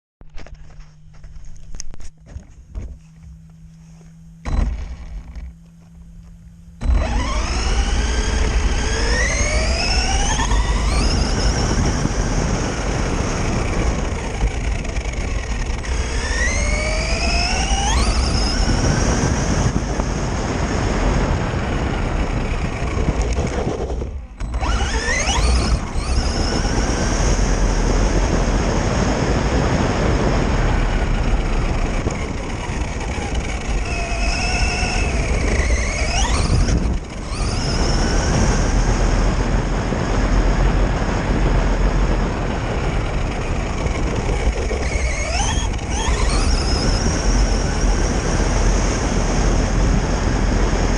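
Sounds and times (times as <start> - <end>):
rc car motor whine: 0.2 - 50.9.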